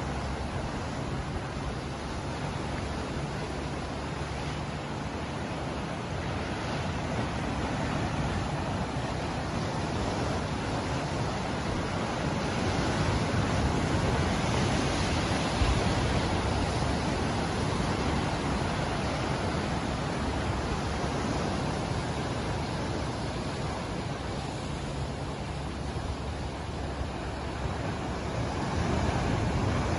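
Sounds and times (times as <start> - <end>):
ocean surf washing: 0.0 - 29.9.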